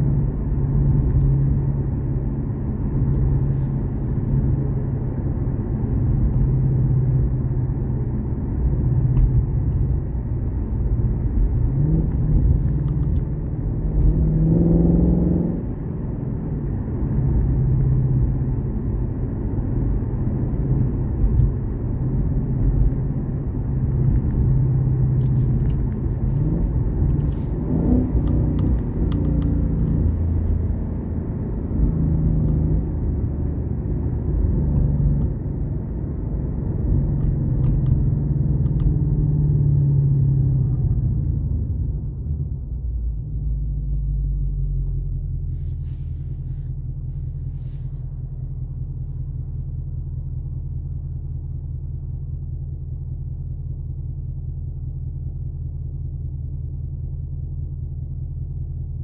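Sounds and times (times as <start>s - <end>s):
car engine idling from inside cabin: 0.0s - 14.4s, 15.5s - 59.0s.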